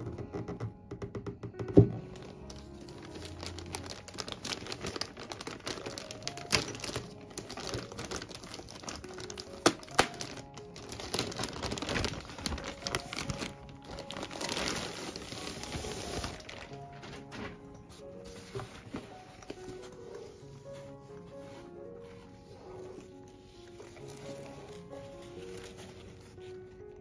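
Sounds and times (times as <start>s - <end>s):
soft background music: 0.0s - 27.0s
plastic wrapping crinkling: 1.9s - 27.0s.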